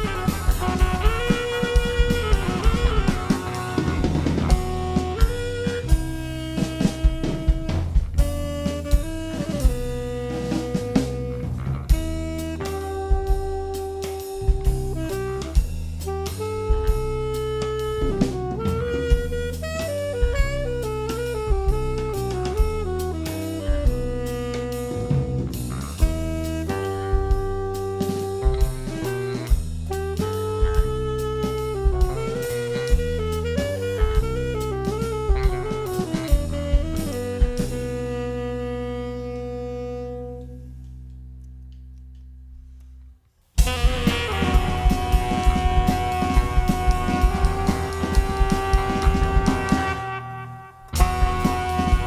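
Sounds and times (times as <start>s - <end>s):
lead melody line: 0.0s - 41.6s, 43.6s - 52.0s
drum kit: 0.0s - 42.8s, 43.5s - 52.0s
jazz band music: 0.0s - 52.0s.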